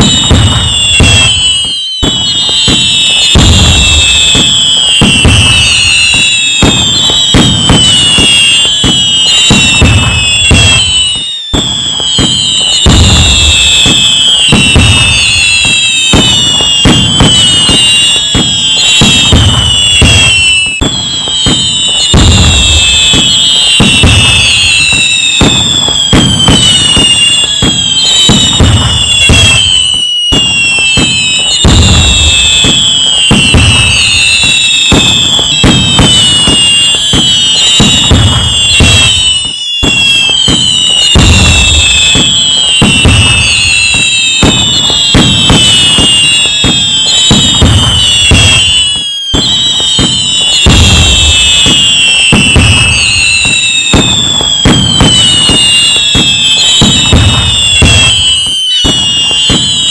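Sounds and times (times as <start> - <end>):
fireworks bangs and crackling: 0.0 - 59.9
whistling fireworks: 0.0 - 59.9.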